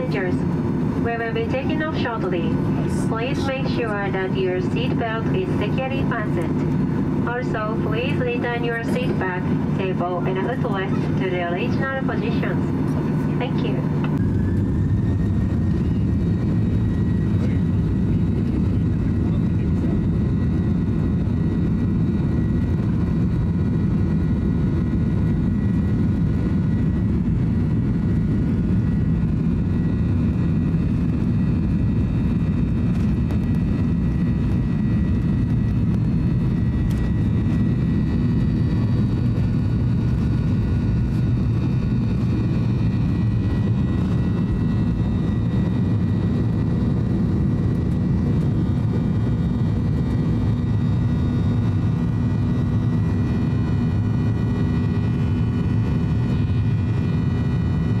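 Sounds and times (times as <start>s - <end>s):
higher whine: 0.0s - 57.1s
fan whine: 0.0s - 58.0s
jet engine rumble in cabin: 0.0s - 58.0s.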